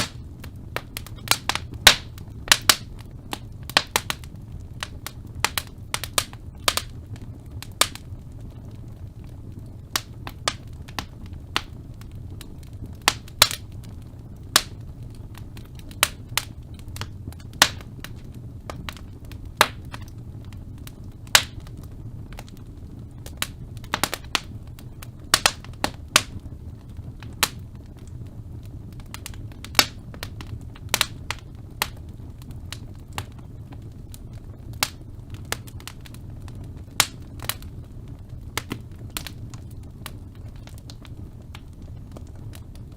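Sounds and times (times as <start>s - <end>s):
fire crackling and popping: 0.0s - 42.9s
low rumble of flames: 0.0s - 42.9s.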